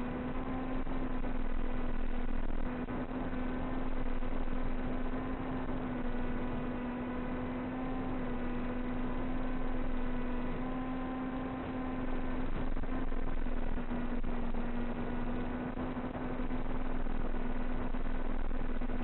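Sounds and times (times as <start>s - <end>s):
constant rushing noise: 0.0s - 19.0s
steady low hum with higher tones: 0.0s - 19.0s.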